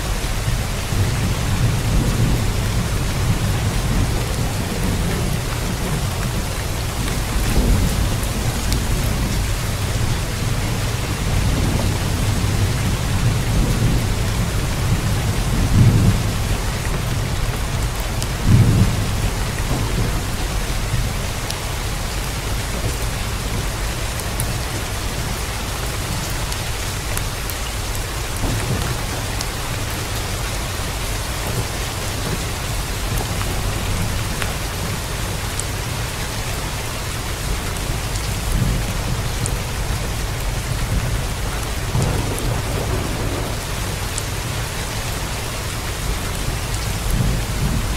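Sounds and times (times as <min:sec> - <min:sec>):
low rolling thunder: 0:00.0 - 0:26.9, 0:27.7 - 0:36.1, 0:38.0 - 0:45.2, 0:45.9 - 0:47.9
heavy rain: 0:00.0 - 0:47.9.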